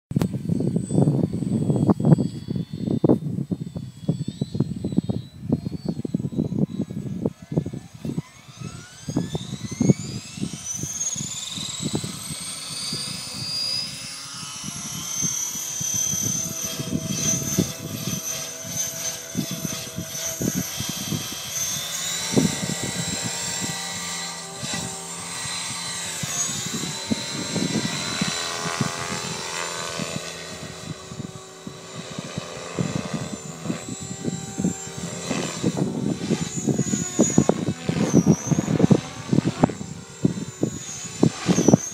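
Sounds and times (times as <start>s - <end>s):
rc helicopter whine: 0.1s - 41.9s.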